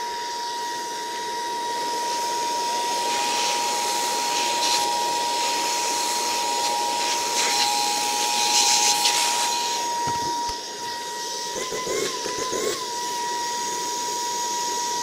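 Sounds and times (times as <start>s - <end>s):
handheld vacuum cleaner running: 0.0s - 15.0s.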